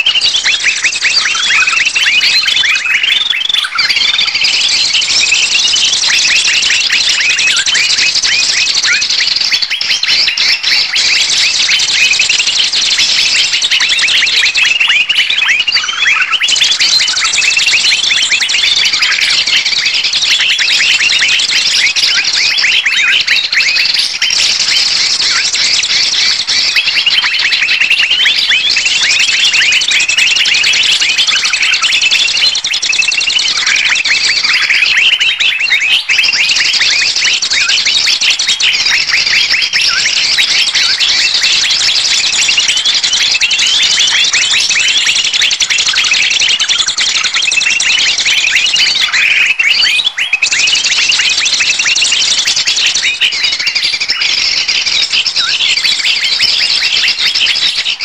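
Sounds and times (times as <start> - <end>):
small birds chirping chorus: 0.0 - 58.0.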